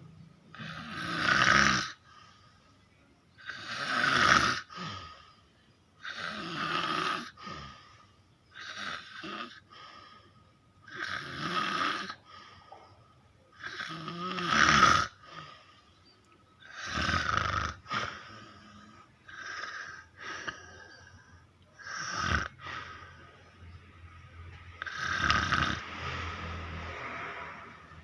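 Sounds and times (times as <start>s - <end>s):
person snoring heavily: 0.5s - 2.5s, 3.4s - 5.4s, 6.0s - 12.6s, 13.5s - 15.8s, 16.6s - 23.5s, 24.8s - 28.0s.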